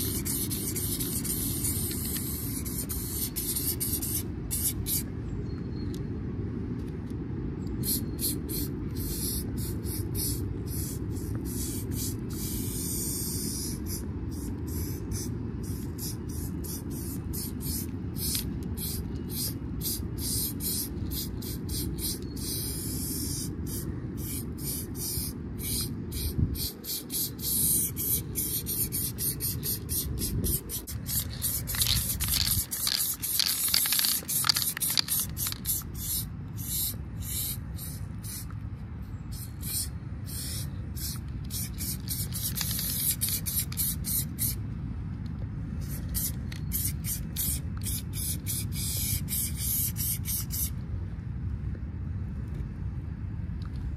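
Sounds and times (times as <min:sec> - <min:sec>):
spray paint can hissing: 0:00.0 - 0:05.1, 0:07.8 - 0:38.5, 0:39.3 - 0:44.6, 0:45.8 - 0:50.7
steady low rumble: 0:00.0 - 0:53.9.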